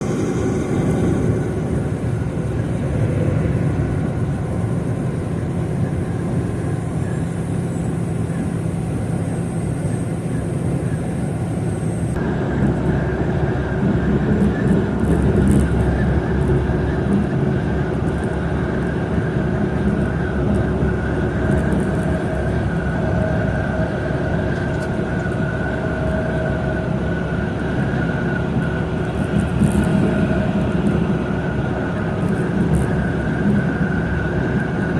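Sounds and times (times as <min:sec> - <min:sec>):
truck engine and road noise: 0:00.0 - 0:34.9.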